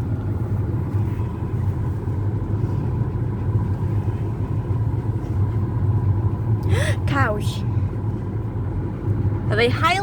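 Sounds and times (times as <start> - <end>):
car driving rumble from cabin: 0.0 - 10.0.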